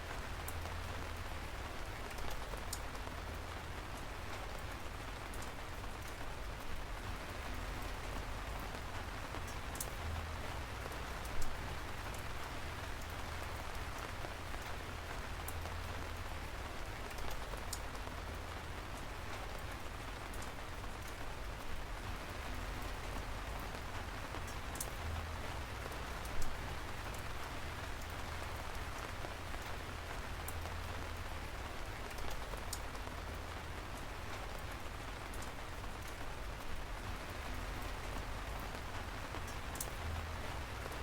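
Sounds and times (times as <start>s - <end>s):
steady rain on a surface: 0.0s - 41.0s.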